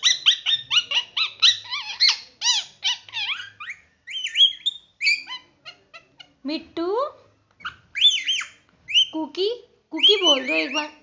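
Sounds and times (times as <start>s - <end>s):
parakeet calling: 0.0s - 6.4s, 7.5s - 11.0s.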